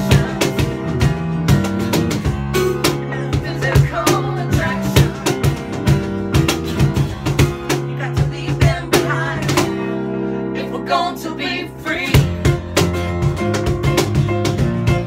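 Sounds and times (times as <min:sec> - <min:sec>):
drums keeping a steady beat: 0:00.0 - 0:10.0, 0:12.0 - 0:15.0
guitar: 0:00.0 - 0:15.0.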